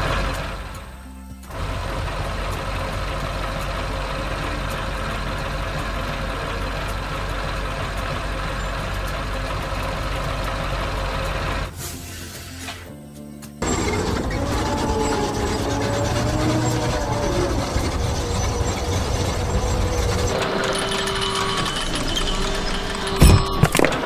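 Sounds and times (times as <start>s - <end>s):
heavy vehicle engine running: 0.0s - 12.4s, 13.6s - 24.0s.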